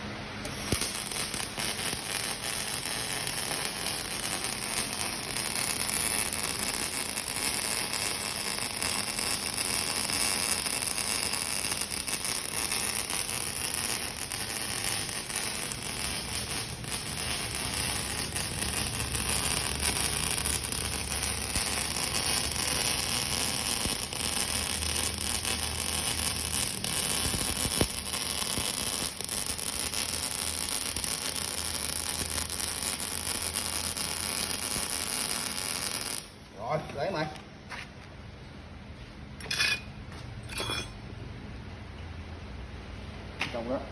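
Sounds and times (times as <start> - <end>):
welding arc crackling hiss: 0.4 - 37.4.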